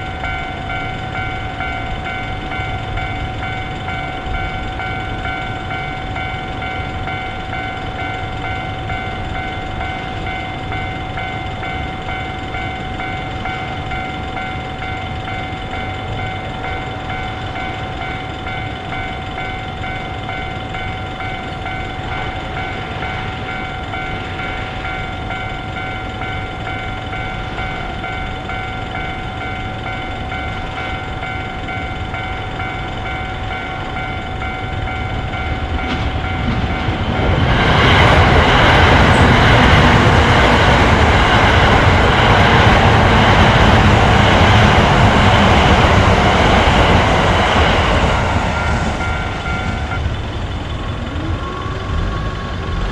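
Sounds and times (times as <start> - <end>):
level crossing warning bell: 0.0 - 52.9
low rumble of a train: 0.0 - 52.9.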